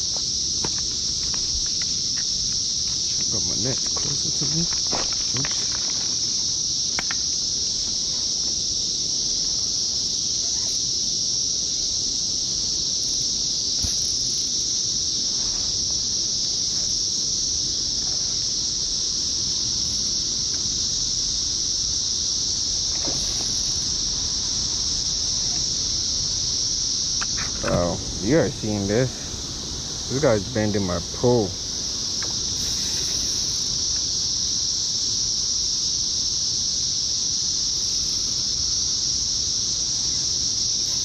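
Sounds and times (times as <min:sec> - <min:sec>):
cicadas droning: 0:00.0 - 0:41.0.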